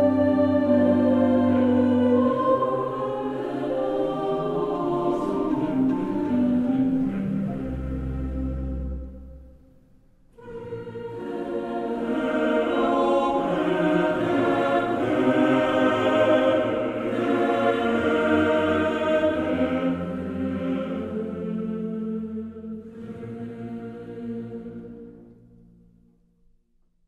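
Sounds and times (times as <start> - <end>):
choir singing held chords: 0.0 - 9.7, 10.3 - 25.8
music: 0.0 - 27.0.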